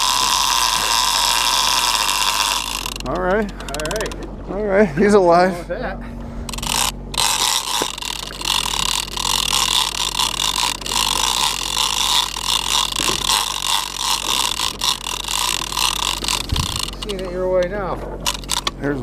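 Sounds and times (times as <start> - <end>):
fishing reel gears whirring: 0.0 - 4.4, 6.4 - 19.0.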